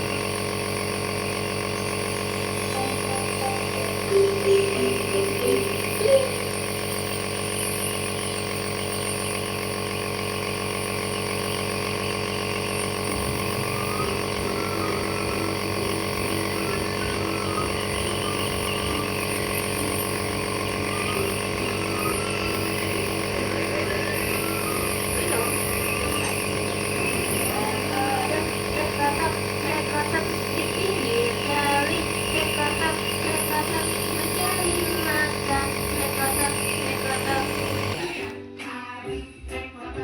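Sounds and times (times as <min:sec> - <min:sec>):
nebulizer compressor humming: 0:00.0 - 0:38.4.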